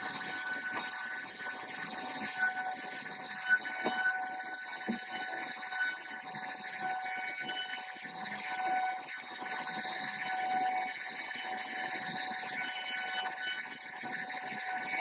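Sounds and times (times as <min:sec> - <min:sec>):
router spindle high whine: 0:00.0 - 0:15.0.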